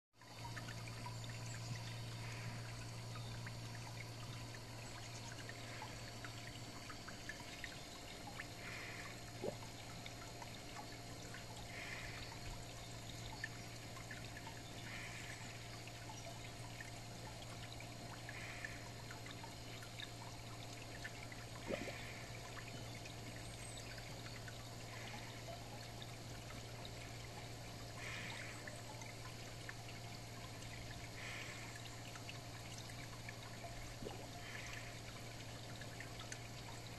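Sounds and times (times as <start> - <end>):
low constant hum: 0.2 - 36.9
pond water trickling: 0.2 - 36.9.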